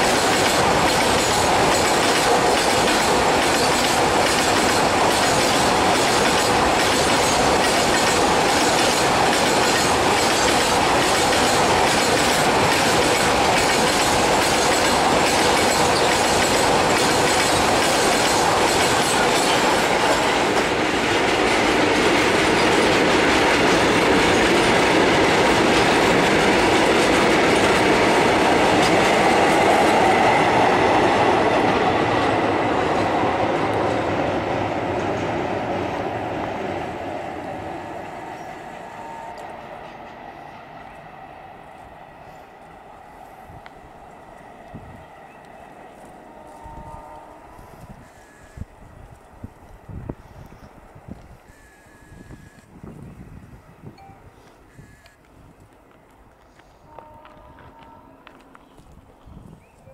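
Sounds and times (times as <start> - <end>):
rhythmic clatter over rail joints: 0.0 - 59.2
train wheels rumbling on rail: 0.0 - 59.9.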